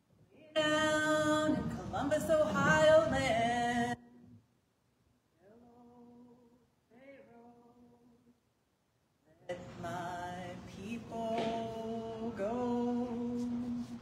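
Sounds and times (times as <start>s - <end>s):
person singing unaccompanied: 0.4s - 4.4s, 5.4s - 8.4s, 9.4s - 14.0s.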